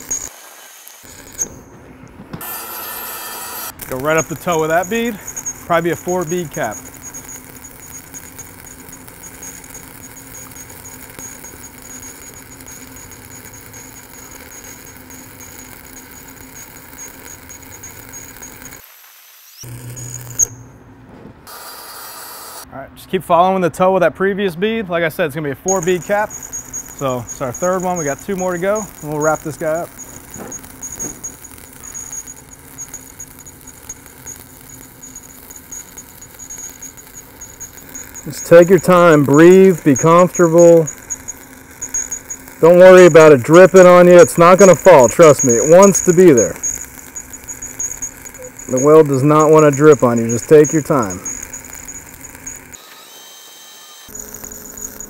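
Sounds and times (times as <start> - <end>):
welding arc crackling sizzle: 0.0 - 20.8, 21.4 - 22.7, 25.7 - 55.0.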